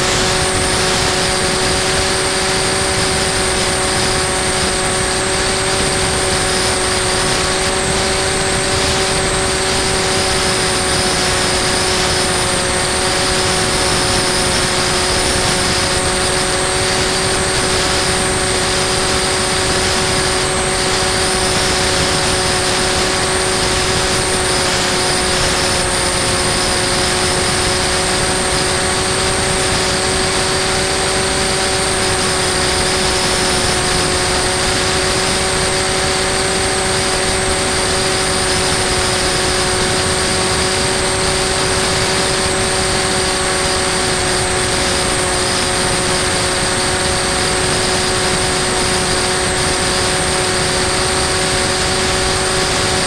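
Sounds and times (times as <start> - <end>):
electric motor and propeller: 0.0 - 53.0
wind noise: 0.0 - 53.0.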